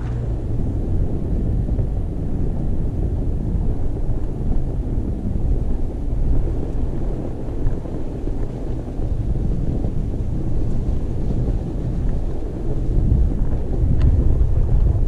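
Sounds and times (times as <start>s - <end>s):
vehicle and tyres rumbling on snow: 0.0s - 15.0s
wind buffeting microphone: 0.0s - 15.0s.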